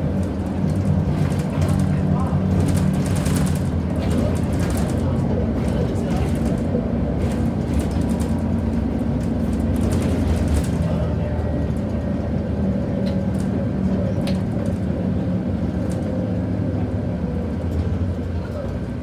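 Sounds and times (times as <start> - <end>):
bus diesel engine running: 0.0 - 19.0
road noise: 0.0 - 19.0.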